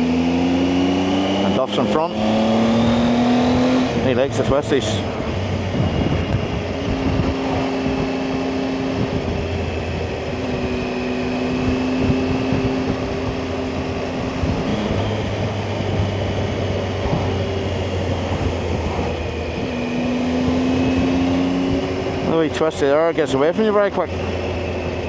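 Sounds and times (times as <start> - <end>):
motorcycle engine running: 0.0 - 25.0
wind rushing on microphone: 2.2 - 25.0.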